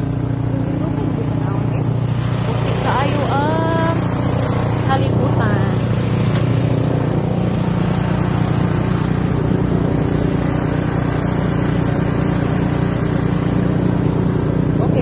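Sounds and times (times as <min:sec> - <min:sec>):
snowblower engine running: 0:00.0 - 0:15.0.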